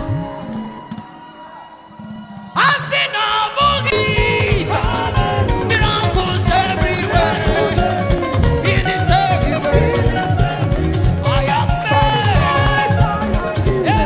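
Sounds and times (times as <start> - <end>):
upbeat gospel band music: 0.0 - 14.0.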